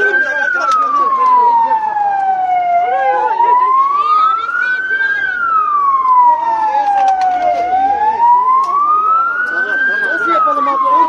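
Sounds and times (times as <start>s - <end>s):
emergency siren wailing: 0.0s - 11.0s
voices: 0.0s - 11.0s.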